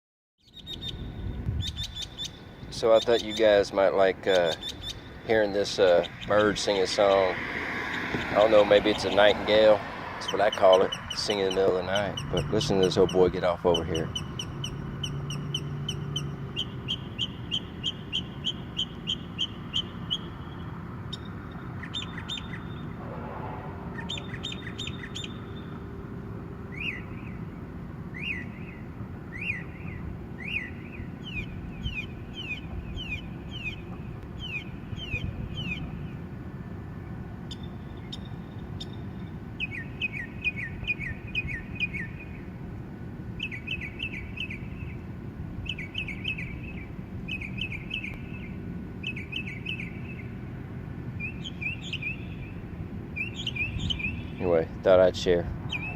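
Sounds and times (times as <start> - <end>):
songbird singing: 0.4 - 55.9.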